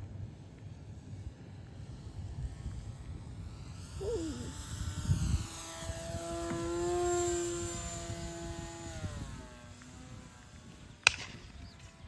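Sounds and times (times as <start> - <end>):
model plane motor droning: 1.7 - 12.0.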